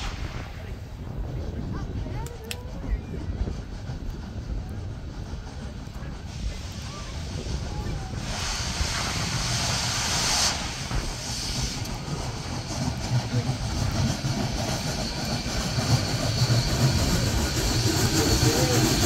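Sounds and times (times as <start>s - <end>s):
loud steam hiss: 0.0s - 19.0s
steam locomotive rumble: 0.0s - 19.0s.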